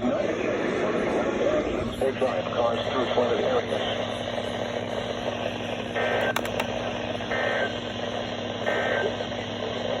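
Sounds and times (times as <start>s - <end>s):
radio receiver hiss and hum: 0.0s - 10.0s.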